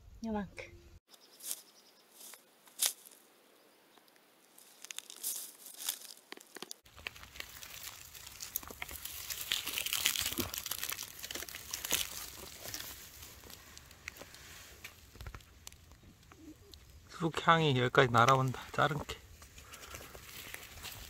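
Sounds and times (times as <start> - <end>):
stems and leaves crackling and tearing: 2.2 - 3.2, 4.0 - 17.2, 17.9 - 21.0.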